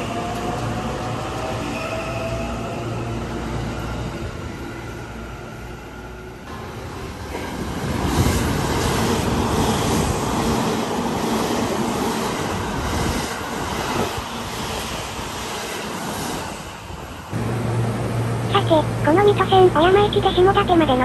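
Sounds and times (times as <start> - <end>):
electric train passing at speed: 0.0 - 21.0.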